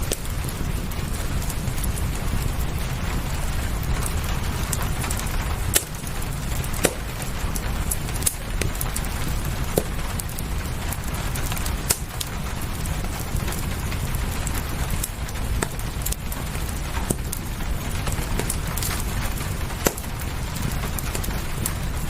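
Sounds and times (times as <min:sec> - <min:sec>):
fireplace crackling and popping: 0:00.0 - 0:22.0
steady rain: 0:00.0 - 0:22.0.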